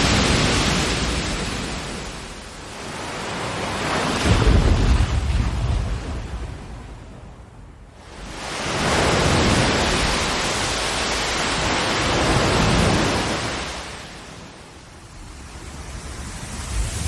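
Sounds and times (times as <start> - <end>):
ocean wave washing: 0.0 - 17.0.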